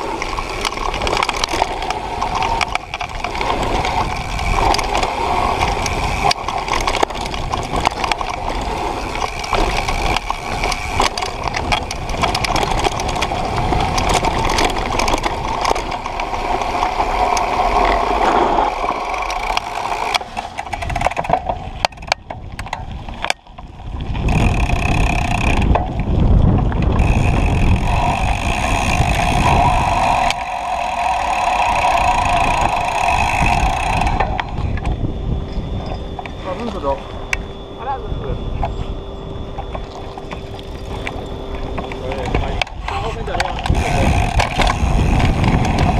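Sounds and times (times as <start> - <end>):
steady buzz: 0.0 - 22.2, 23.2 - 45.9
bike rattling and clicking: 0.0 - 45.9
knobby tyres rumbling over ground: 0.0 - 45.9.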